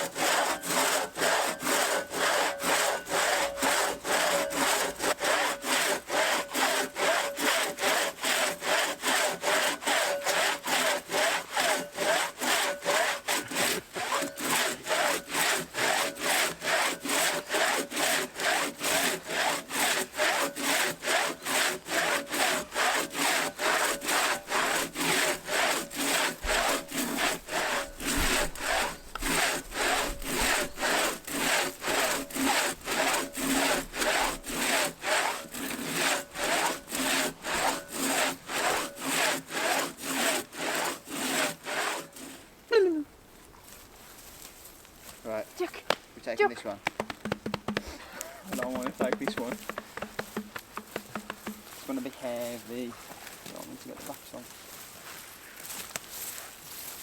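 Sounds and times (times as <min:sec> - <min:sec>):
hand saw cutting log: 0:00.0 - 0:43.0, 0:45.6 - 0:54.5.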